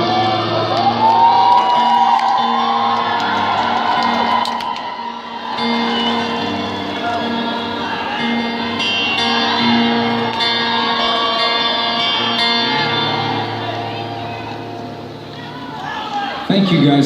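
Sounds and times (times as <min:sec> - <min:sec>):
crowd noise and voices: 0:00.0 - 0:17.0
live rock music over speakers: 0:00.0 - 0:17.0.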